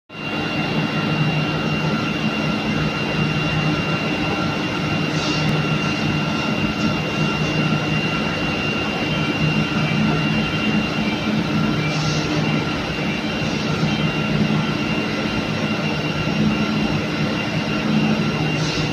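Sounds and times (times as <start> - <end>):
drone of motors and fans: 0.1 - 18.9.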